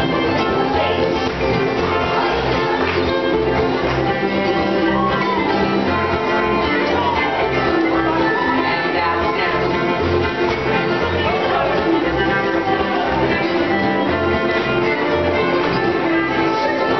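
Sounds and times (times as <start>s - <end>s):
fiddle: 0.0s - 16.9s
guitar: 0.0s - 16.9s.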